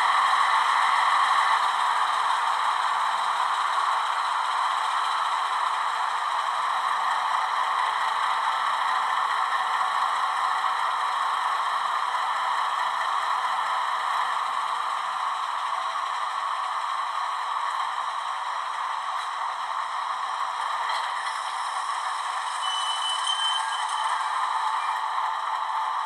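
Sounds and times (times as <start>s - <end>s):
recorded diesel engine sound: 0.0s - 26.0s.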